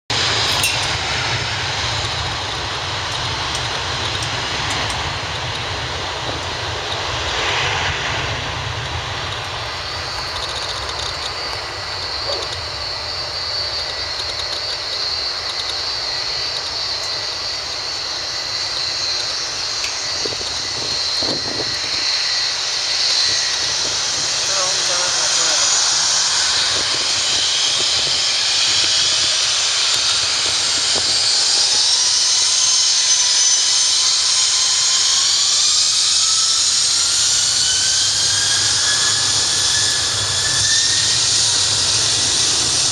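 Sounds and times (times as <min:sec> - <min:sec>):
high steady whine: 0:00.1 - 0:42.9
jet engines rushing: 0:00.1 - 0:42.9.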